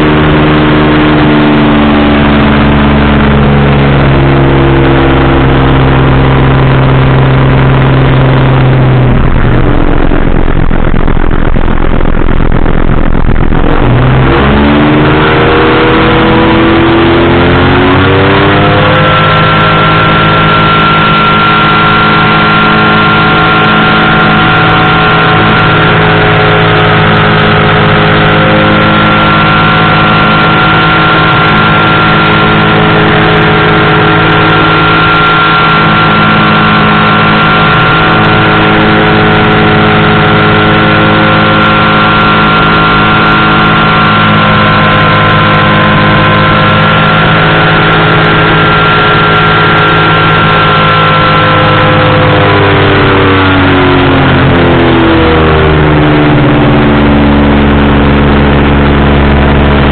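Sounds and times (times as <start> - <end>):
engine and propeller droning: 0.0 - 59.9.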